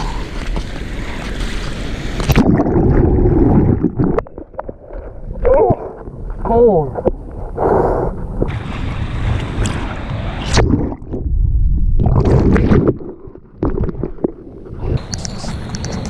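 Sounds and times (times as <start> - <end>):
sea water rushing and splashing: 0.0 - 7.5, 8.1 - 15.8.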